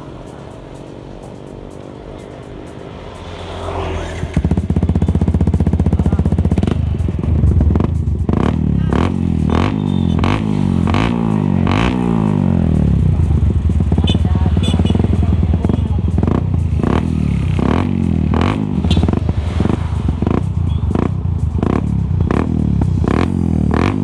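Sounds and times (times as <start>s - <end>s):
motorbike engine with throttle blips: 2.8s - 24.0s.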